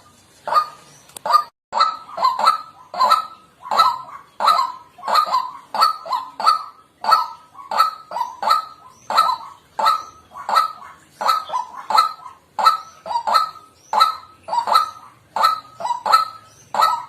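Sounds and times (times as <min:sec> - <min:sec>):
bird harsh calls: 0:00.0 - 0:17.0.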